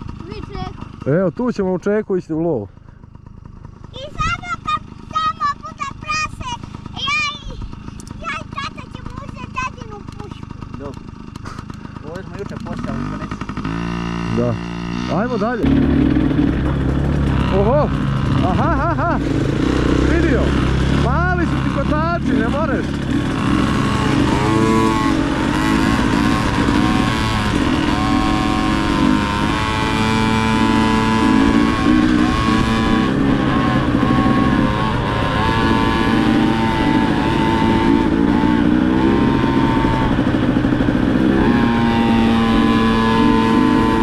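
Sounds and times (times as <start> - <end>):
dirt bike engine running: 0.0 - 44.0.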